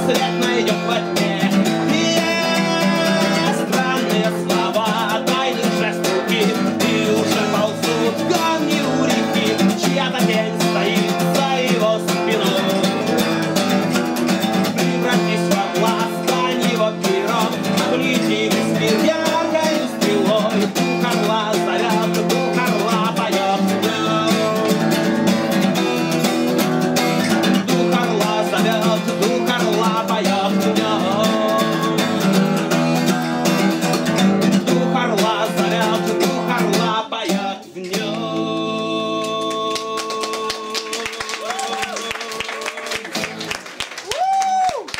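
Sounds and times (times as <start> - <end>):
acoustic guitar strumming chords: 0.0 - 40.9.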